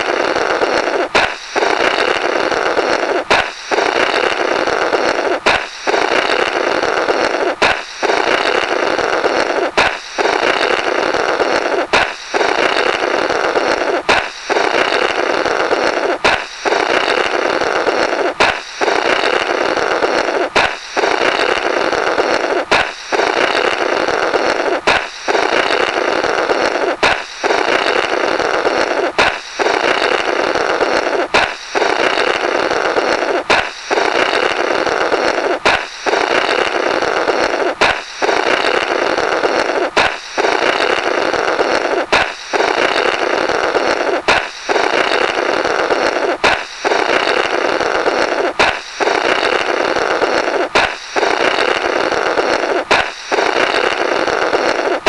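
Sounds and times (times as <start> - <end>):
balloon popping: 0.0 - 55.0
blowing through burst balloon: 0.0 - 55.0.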